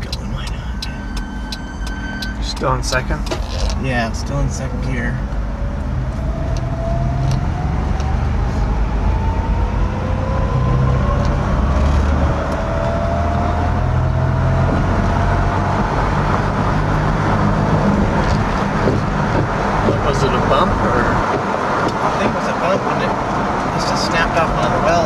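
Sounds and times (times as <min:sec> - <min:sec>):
road and drivetrain rumble: 0:00.0 - 0:25.0.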